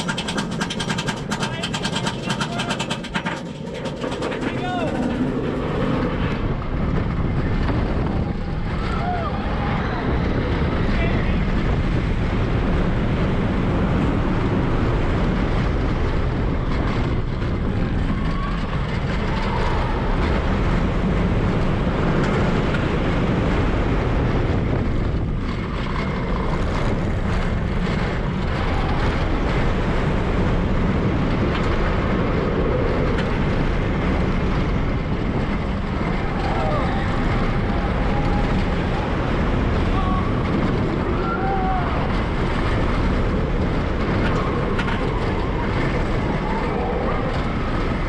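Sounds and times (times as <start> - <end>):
roller coaster rumbling on track: 0.0 - 48.0.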